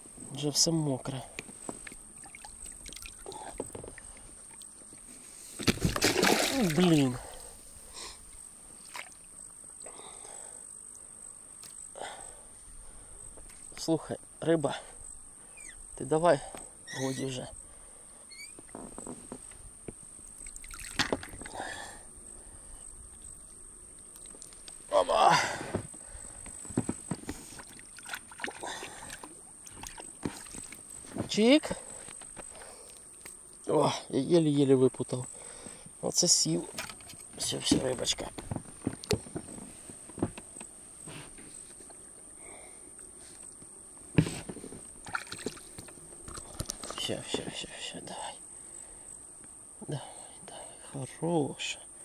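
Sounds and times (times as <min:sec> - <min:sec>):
cricket trill: 0:00.0 - 0:52.0
insect chirring: 0:00.0 - 0:52.0.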